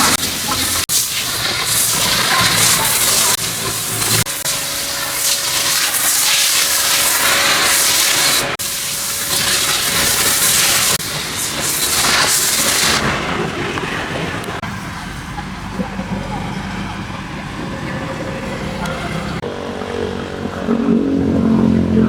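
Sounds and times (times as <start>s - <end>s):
pressure washer spraying water: 0.0s - 19.8s.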